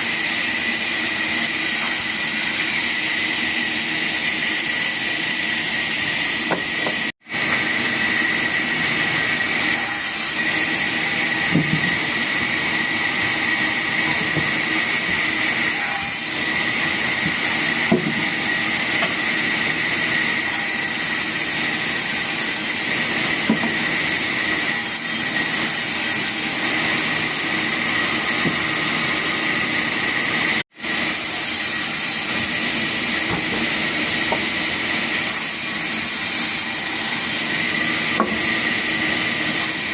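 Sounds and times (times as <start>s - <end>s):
woodworking machinery whining: 0.0s - 39.9s.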